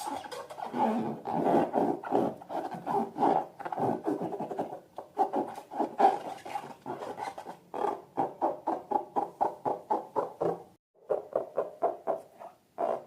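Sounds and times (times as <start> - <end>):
rubbery rubbing sounds: 0.0 - 13.0.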